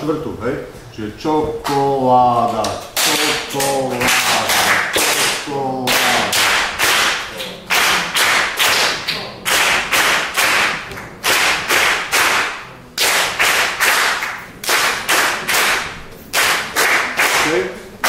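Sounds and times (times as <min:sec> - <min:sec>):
group clapping in rhythm: 0:01.6 - 0:18.0.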